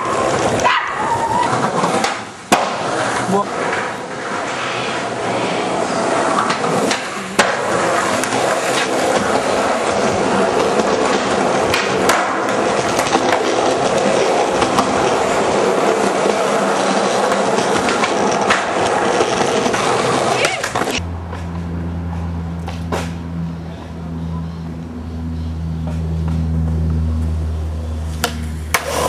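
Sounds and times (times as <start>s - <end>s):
skateboard wheels rolling on concrete: 0.0s - 29.0s.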